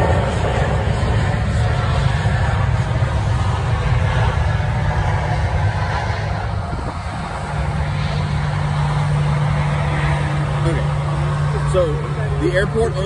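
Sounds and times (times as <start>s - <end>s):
jet engines rumbling: 0.0s - 13.0s
steady low hum: 0.0s - 13.0s.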